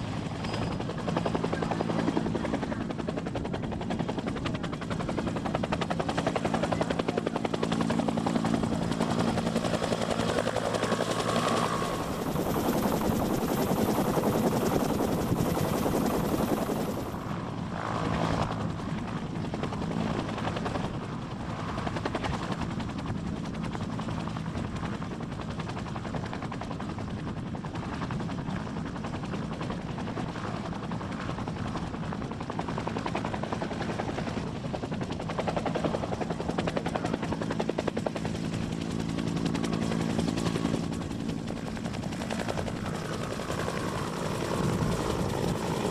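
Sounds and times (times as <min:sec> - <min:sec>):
helicopter rotor beat: 0:00.0 - 0:45.9.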